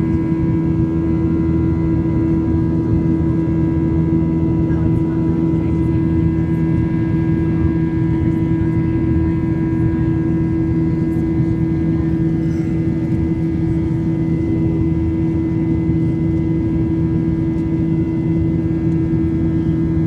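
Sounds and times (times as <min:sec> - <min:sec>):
jet engines droning in cabin: 0:00.0 - 0:20.0.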